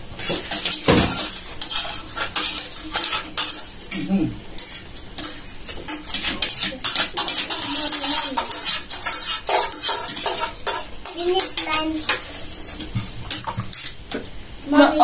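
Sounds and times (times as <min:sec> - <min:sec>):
cutlery and plates clinking: 0:00.3 - 0:14.0.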